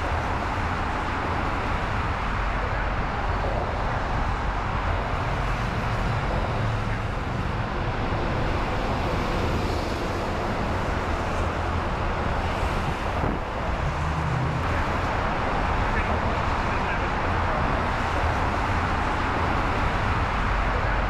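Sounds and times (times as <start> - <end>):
traffic rumble overhead: 0.0 - 21.0.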